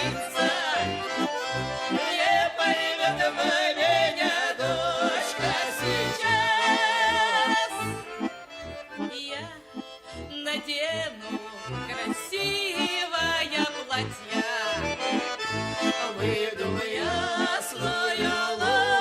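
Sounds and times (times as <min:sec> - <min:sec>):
accordion playing folk melody: 0:00.0 - 0:19.0.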